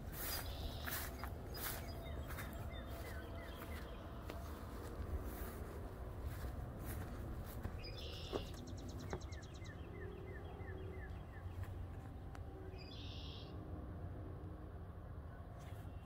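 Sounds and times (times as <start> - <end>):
songbirds singing: 0.0 - 13.6.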